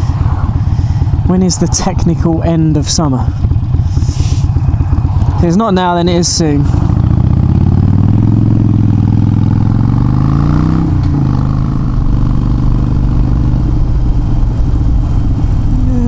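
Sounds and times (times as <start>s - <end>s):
motorcycle engine accelerating: 0.0s - 16.0s
wind rush: 0.0s - 16.0s.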